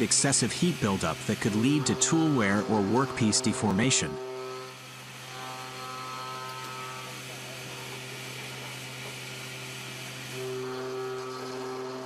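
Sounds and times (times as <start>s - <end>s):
metal cutting hiss: 0.0s - 12.0s
milling machine hum: 0.0s - 12.0s.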